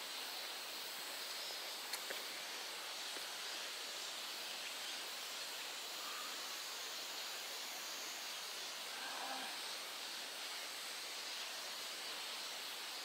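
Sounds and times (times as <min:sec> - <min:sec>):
insects humming: 0:00.0 - 0:13.0.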